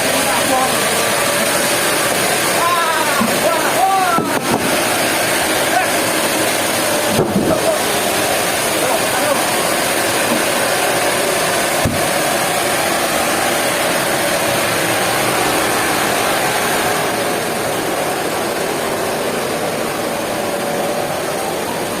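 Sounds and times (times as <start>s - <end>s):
machinery running: 0.0s - 22.0s.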